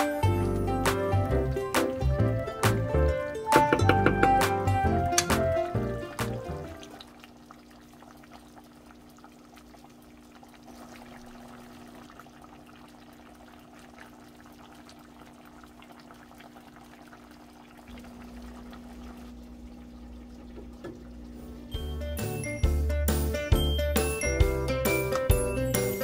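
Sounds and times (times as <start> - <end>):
stew simmering and bubbling: 0.0 - 25.2.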